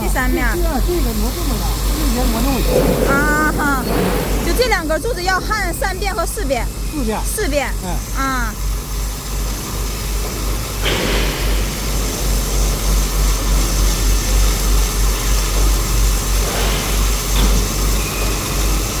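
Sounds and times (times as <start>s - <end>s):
welding machine humming and hissing: 0.0s - 19.0s.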